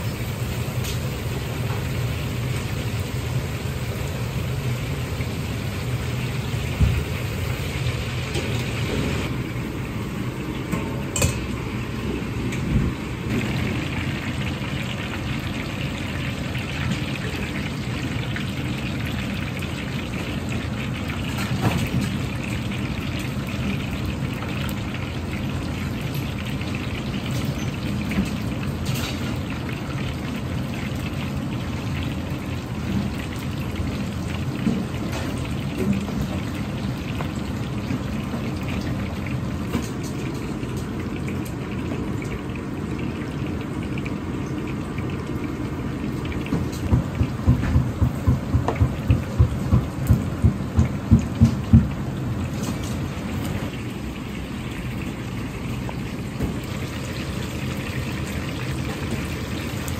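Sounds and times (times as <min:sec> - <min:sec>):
tofu deep-frying in oil: 0:00.0 - 0:59.9.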